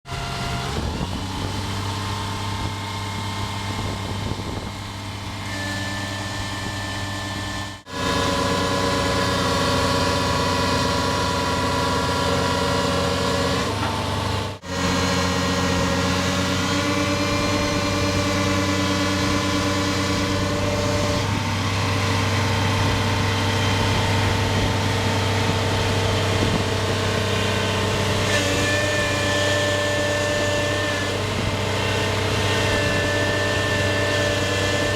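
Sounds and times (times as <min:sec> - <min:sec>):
diesel engine running steadily: 0:00.1 - 0:34.9.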